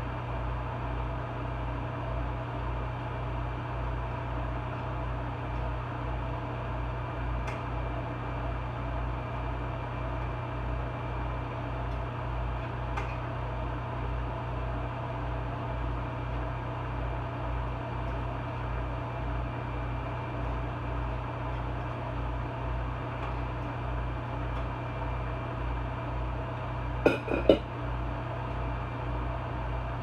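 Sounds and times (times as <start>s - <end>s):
vent fan humming: 0.0s - 30.0s.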